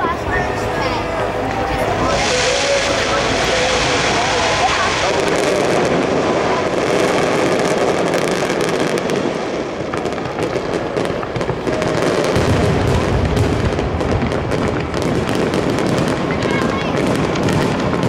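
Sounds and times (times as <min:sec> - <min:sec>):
deep fireworks rumble: 0:00.0 - 0:18.0
fireworks crackling pops: 0:00.0 - 0:18.0.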